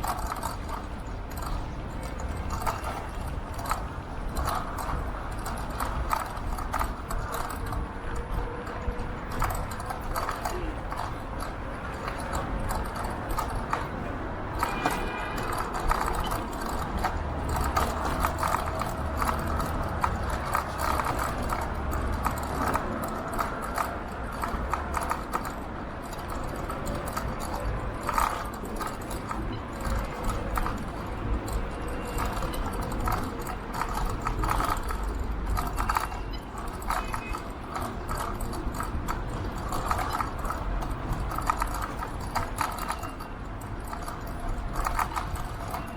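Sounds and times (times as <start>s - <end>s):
loose bike parts rattling: 0.0s - 45.9s
road and wind noise: 0.0s - 45.9s.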